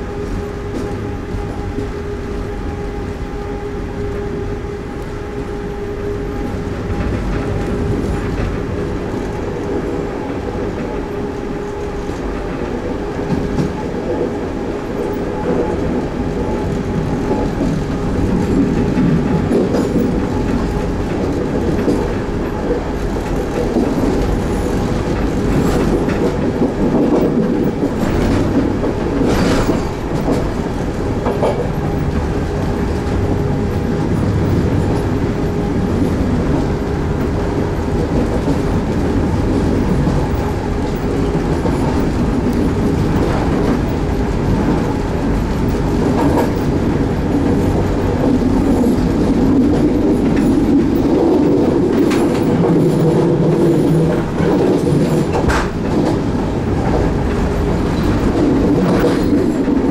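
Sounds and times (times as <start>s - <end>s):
train rumble and hum: 0.0s - 59.9s
wheels clicking over rail joints: 6.9s - 59.9s.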